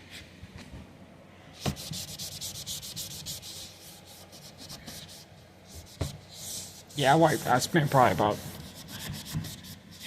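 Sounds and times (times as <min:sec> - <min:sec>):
rubbing strokes on furniture: 0:01.6 - 0:10.0.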